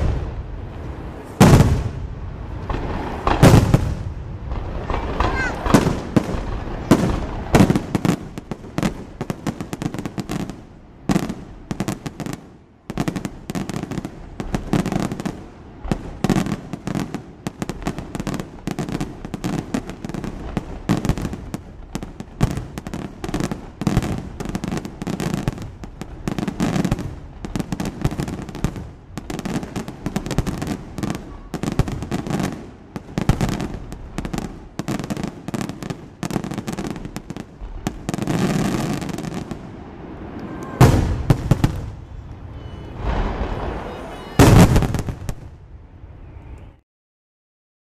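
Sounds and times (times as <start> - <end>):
fireworks bursting and banging: 0.0 - 46.7.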